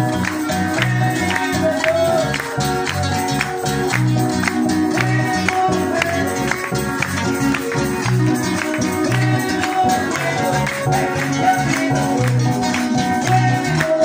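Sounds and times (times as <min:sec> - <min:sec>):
praise music with bass line: 0:00.0 - 0:14.0.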